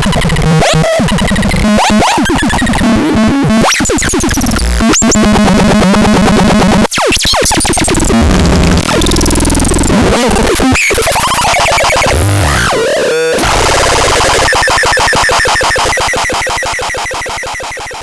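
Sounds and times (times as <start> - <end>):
harsh synthesizer noise: 0.0 - 18.0.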